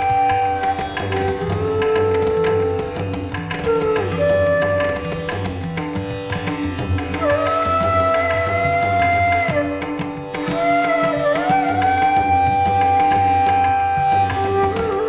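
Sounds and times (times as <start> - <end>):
sliding melody notes: 0.0 - 15.0.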